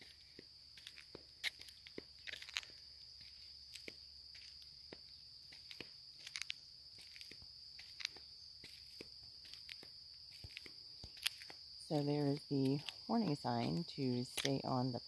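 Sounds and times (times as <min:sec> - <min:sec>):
footsteps crunching on path: 0:00.0 - 0:15.0
high-pitched insect chorus: 0:00.0 - 0:15.0.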